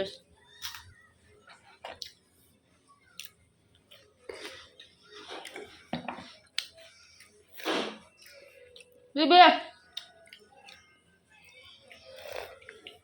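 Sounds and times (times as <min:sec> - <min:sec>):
person chewing biscuits: 0:00.2 - 0:09.1, 0:09.8 - 0:13.0.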